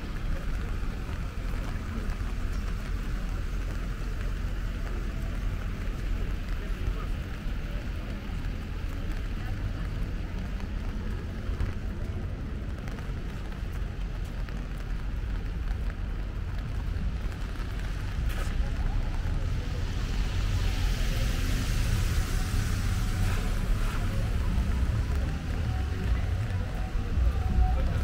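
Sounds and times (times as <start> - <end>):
car tyres hissing on wet road: 0.0 - 28.0
traffic rumble: 0.0 - 28.0.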